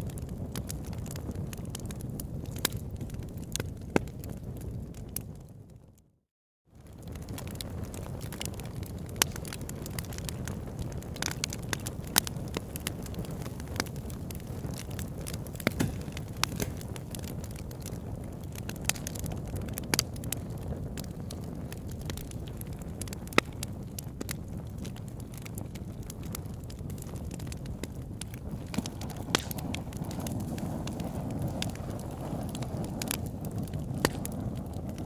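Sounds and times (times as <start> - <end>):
crackling with sharp pops: 0.0 - 5.5, 6.8 - 35.0.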